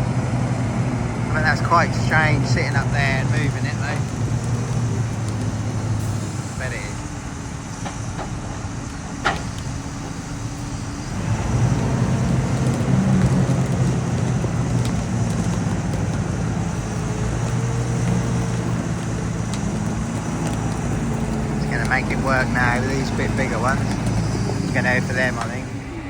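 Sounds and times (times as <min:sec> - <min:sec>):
wood chipper diesel engine: 0:00.0 - 0:26.0.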